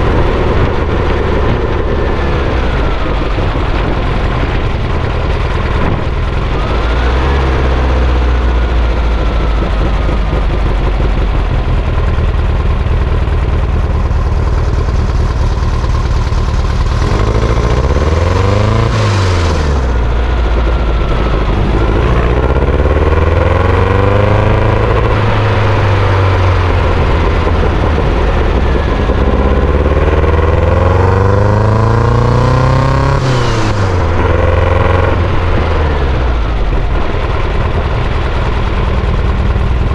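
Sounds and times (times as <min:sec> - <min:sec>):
sand buggy engine revving: 0:00.0 - 0:39.9.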